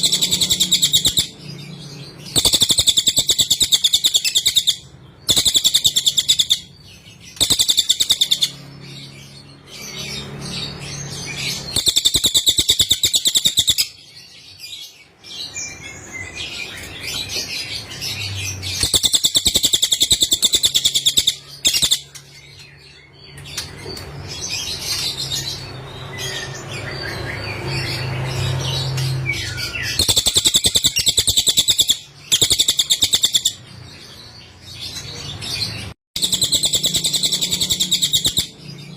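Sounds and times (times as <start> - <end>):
bird twittering: 0.0 - 14.3, 15.7 - 35.2, 36.2 - 38.9
bird singing rapid high trills: 0.0 - 38.9.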